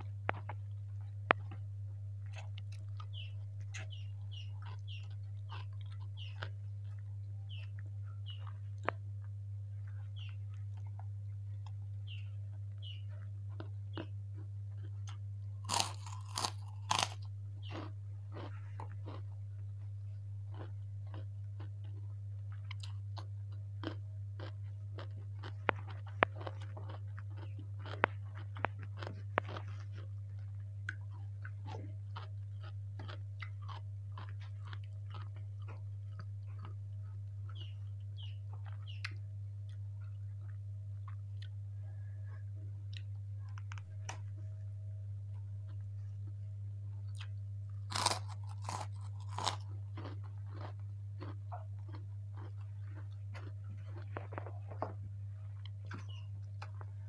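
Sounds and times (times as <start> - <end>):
crunching crisp crackers: 0.0 - 41.6, 45.2 - 57.0
low hum: 0.0 - 57.0.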